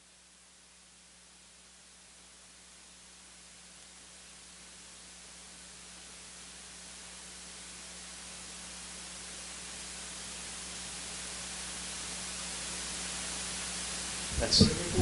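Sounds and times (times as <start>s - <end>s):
low electrical hum: 0.0s - 15.0s
steady hiss: 0.0s - 15.0s.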